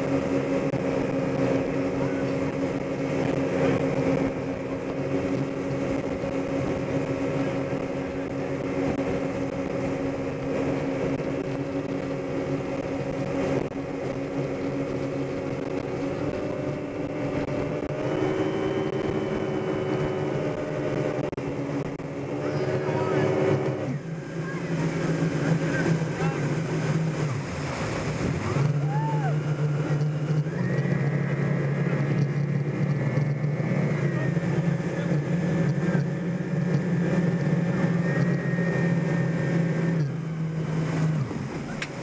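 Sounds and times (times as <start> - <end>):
motorboat engine running: 0.0 - 42.0
water rushing behind boat: 0.0 - 42.0.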